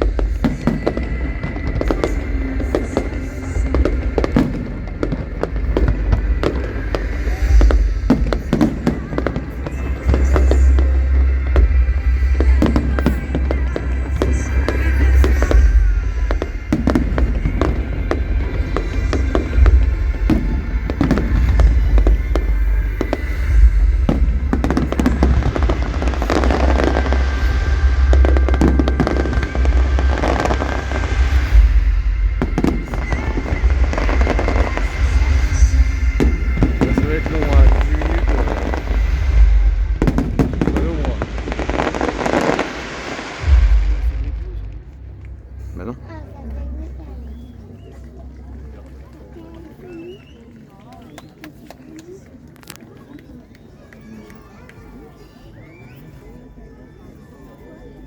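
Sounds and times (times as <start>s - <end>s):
deep rumble: 0.0s - 50.1s
fireworks bangs and crackles: 0.0s - 56.2s.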